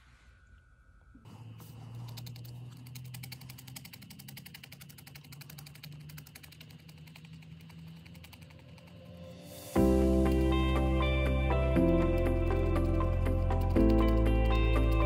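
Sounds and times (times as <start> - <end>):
low steady hum: 0.0 - 15.0
felting needle jabbing foam pad: 1.2 - 15.0.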